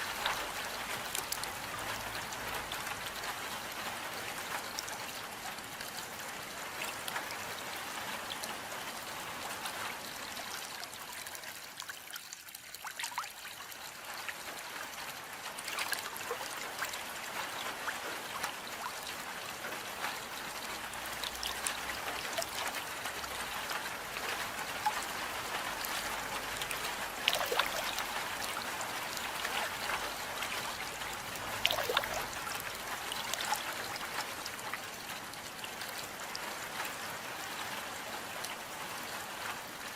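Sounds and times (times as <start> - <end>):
steady rain hiss: 0.0 - 11.7, 13.9 - 39.9
trickling run-off water: 0.0 - 39.9.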